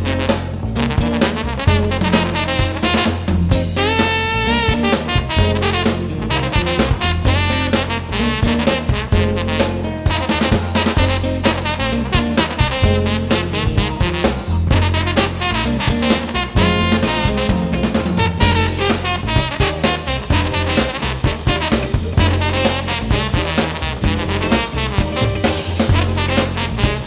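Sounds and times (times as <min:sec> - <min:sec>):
bass line: 0:00.0 - 0:27.0
drum kit steady beat: 0:00.0 - 0:27.0
horns holding a wavering line: 0:00.0 - 0:27.0.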